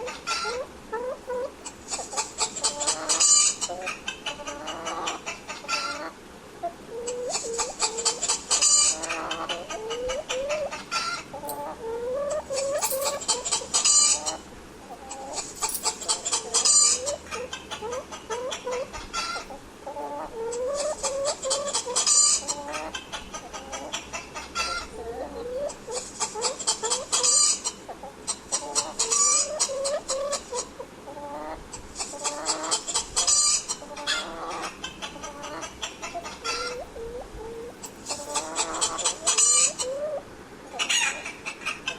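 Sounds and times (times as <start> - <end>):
hens clucking: 0.0 - 41.9.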